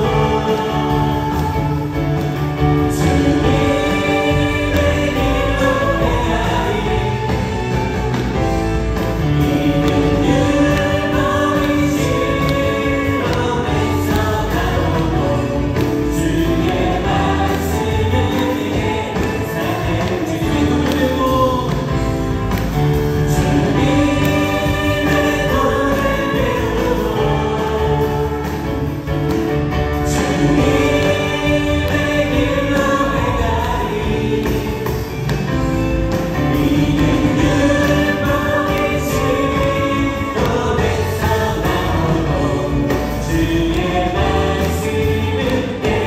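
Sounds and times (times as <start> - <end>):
bass guitar: 0.0 - 46.0
drums: 0.0 - 46.0
group of singers: 0.0 - 46.0
keyboard: 0.0 - 46.0.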